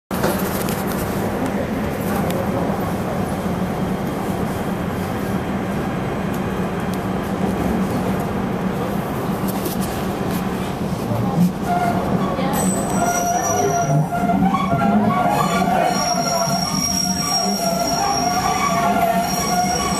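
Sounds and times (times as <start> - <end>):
subway car rumble and hum: 0.1 - 19.9.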